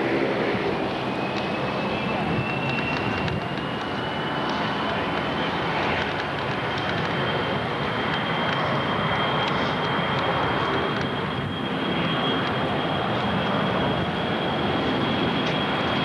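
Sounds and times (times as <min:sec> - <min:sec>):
airplane engine running: 0:00.0 - 0:16.0.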